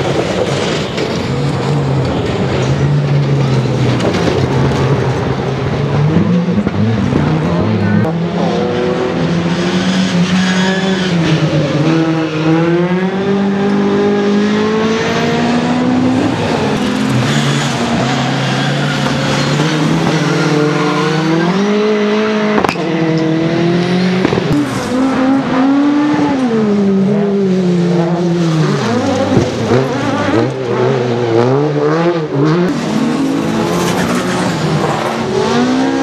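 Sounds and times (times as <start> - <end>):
racing car engines revving: 0.0 - 36.0.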